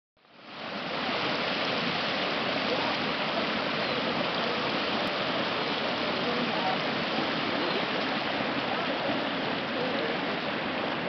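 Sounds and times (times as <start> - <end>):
water rushing: 0.2 - 11.0.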